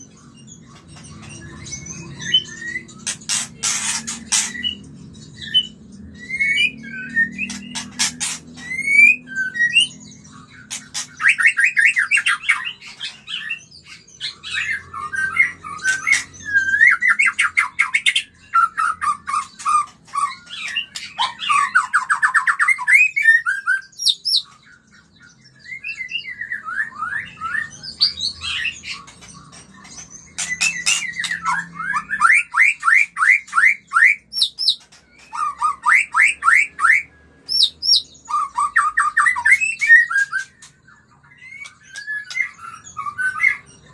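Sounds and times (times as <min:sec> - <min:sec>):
bird singing trills and whistles: 0:00.0 - 0:43.9.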